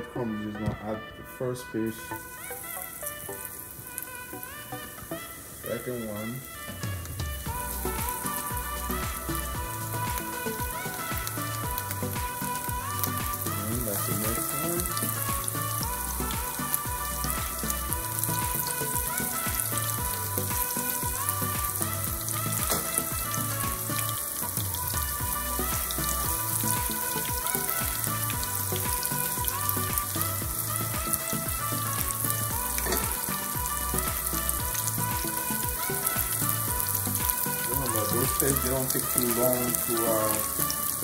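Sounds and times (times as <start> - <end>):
background music with bass line: 0.0 - 41.0
fish sizzling in hot oil: 2.0 - 41.0.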